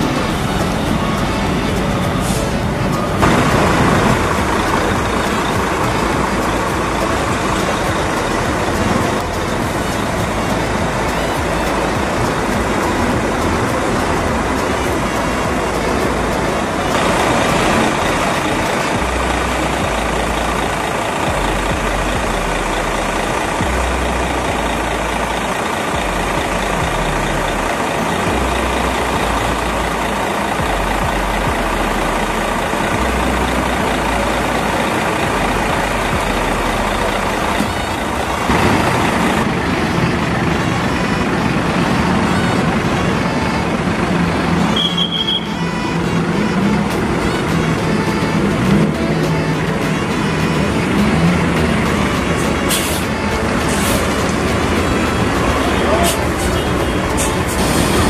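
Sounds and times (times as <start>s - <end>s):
bus engines idling: 0.0s - 58.0s.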